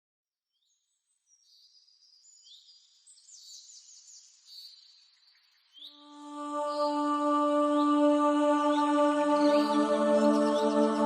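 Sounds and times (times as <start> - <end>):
birds singing faintly: 0.5 - 11.0.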